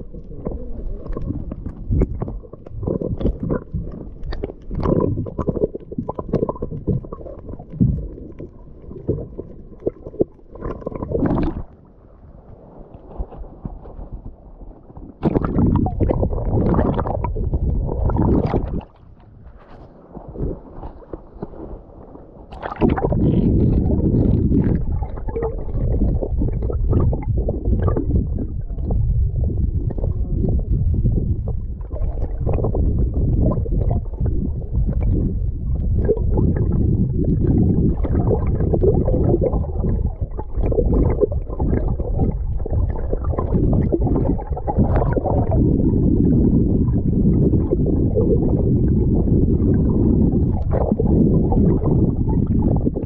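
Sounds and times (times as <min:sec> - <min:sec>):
small crackles and clicks: 0:00.0 - 0:46.3
underwater rumbling and gurgling: 0:00.0 - 0:53.0.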